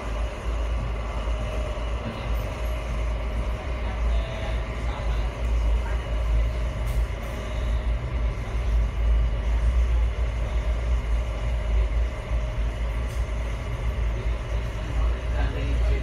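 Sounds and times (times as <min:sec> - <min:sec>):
train rumble from inside carriage: 0:00.0 - 0:16.0.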